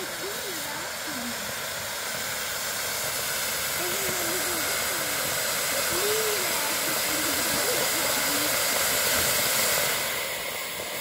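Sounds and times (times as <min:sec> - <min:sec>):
fireworks hissing: 0:00.0 - 0:11.0.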